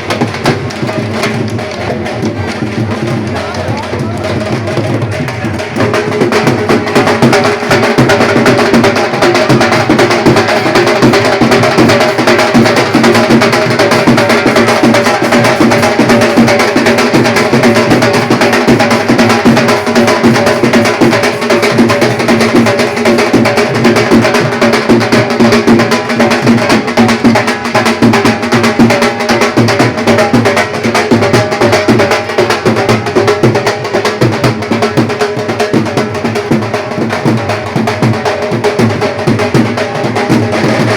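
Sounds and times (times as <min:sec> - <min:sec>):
fast drumming: 0:00.0 - 0:40.9.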